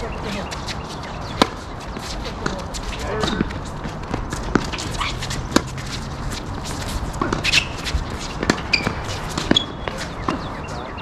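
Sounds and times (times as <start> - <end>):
feet shuffling on court: 0.0 - 11.0.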